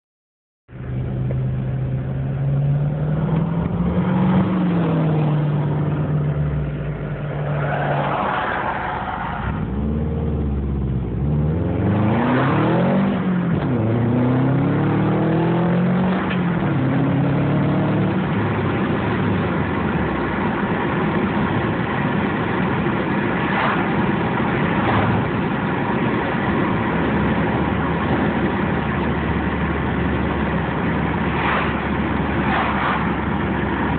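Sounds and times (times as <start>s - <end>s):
car engine idling and revving: 0.7s - 33.9s.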